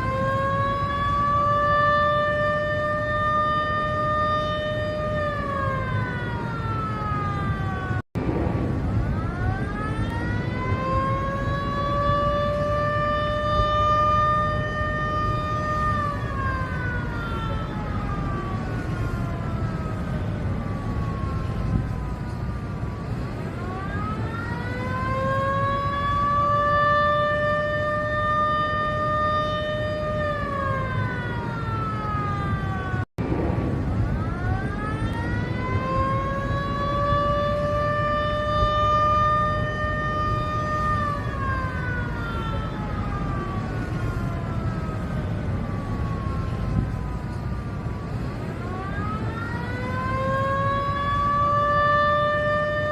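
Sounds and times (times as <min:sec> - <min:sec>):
warning siren wailing: 0:00.0 - 0:52.9.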